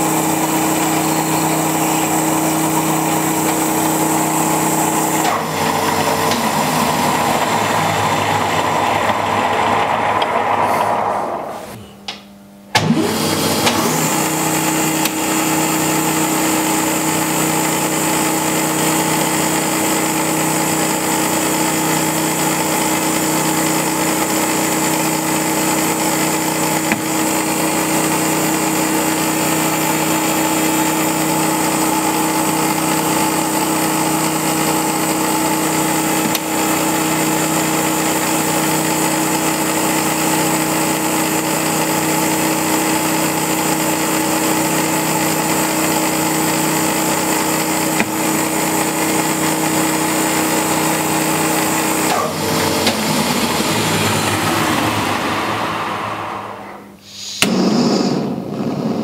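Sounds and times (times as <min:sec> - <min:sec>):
metal lathe motor humming: 0:00.0 - 0:11.8, 0:12.8 - 0:56.9.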